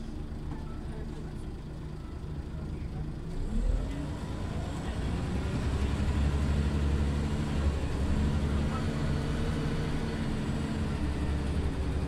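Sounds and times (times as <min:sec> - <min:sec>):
bus engine accelerating: 0:00.0 - 0:12.0.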